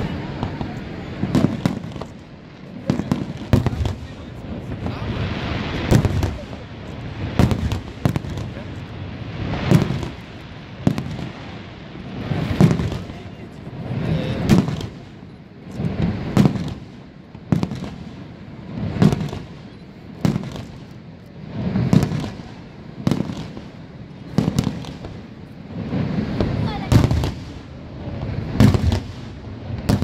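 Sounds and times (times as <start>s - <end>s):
firework shells booming: 0.0s - 11.5s, 12.2s - 13.3s, 14.0s - 21.0s, 21.6s - 30.0s.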